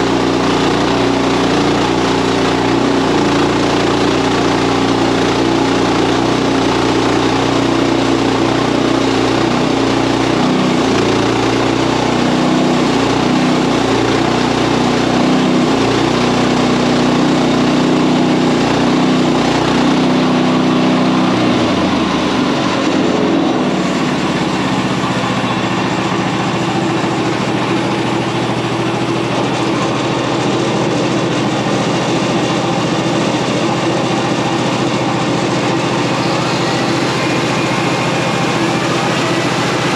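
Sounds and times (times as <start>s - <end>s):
bandsaw sawing log: 0.0s - 39.9s
sawmill engine running: 0.0s - 39.9s.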